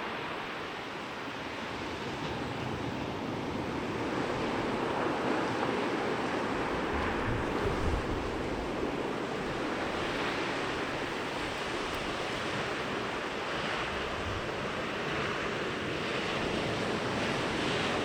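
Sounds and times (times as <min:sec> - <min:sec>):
waves washing up a beach: 0:00.0 - 0:18.0.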